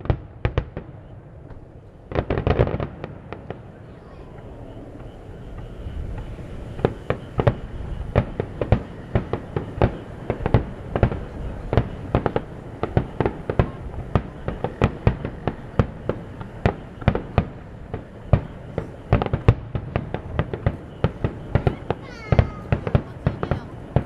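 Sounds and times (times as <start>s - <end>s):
fireworks bursting with sharp bangs: 0.0s - 24.0s
low background noise: 0.0s - 24.0s.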